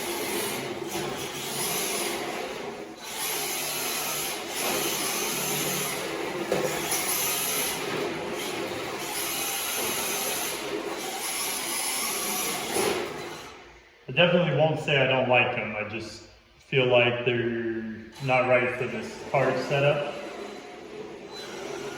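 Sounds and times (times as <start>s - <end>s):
rc car motor whining: 0.0s - 13.9s, 18.1s - 21.9s.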